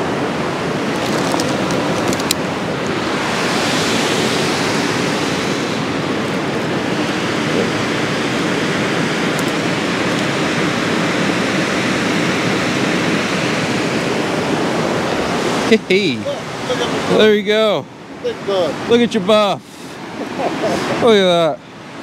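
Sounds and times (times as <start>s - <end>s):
water rushing through spillway: 0.0s - 22.0s.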